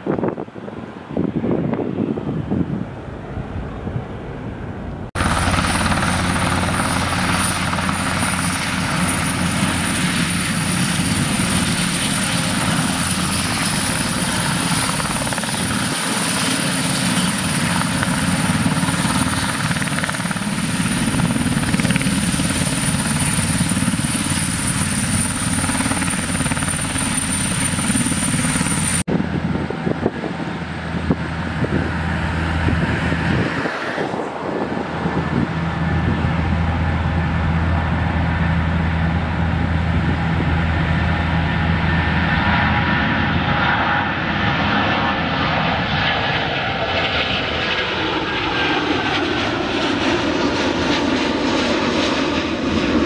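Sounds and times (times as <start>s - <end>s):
helicopter turbine whine: 0.0s - 53.0s
helicopter rotor beating: 2.9s - 53.0s.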